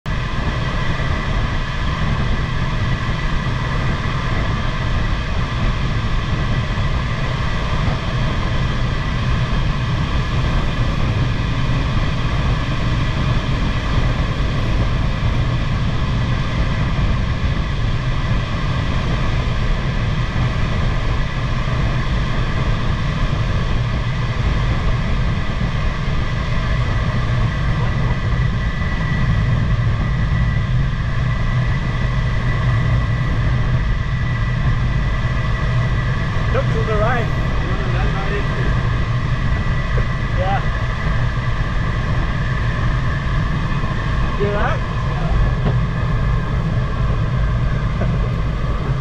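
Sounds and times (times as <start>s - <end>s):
air rushing around cockpit: 0.0s - 49.0s.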